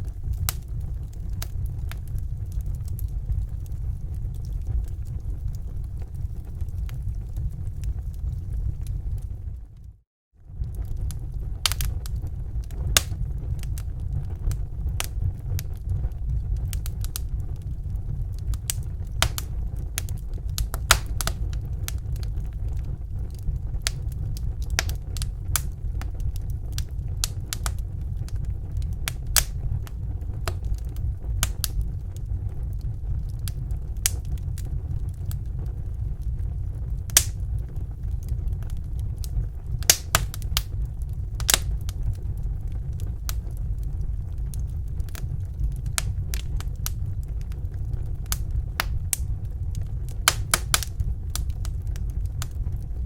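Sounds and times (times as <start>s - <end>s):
steady low rumble: 0.0s - 53.0s
wood fire crackling and popping: 0.0s - 53.0s.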